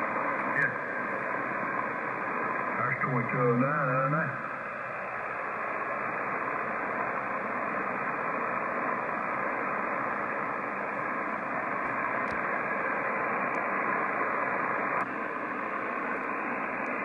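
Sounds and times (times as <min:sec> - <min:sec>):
radio receiver hiss: 0:00.0 - 0:17.0.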